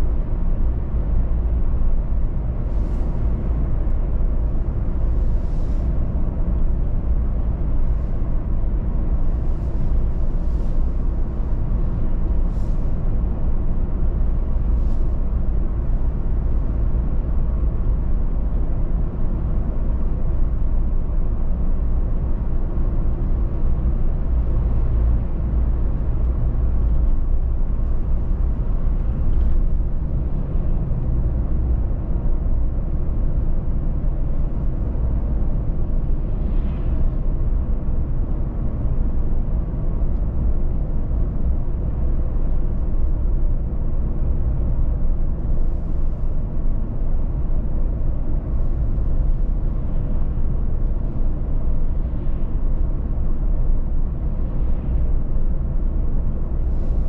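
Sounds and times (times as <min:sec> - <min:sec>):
car driving road rumble: 0:00.0 - 0:57.0.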